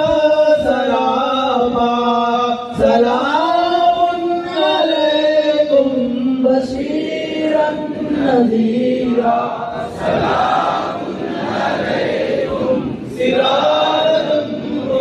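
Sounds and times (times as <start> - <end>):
man chanting: 0.0 - 9.7, 12.5 - 15.0.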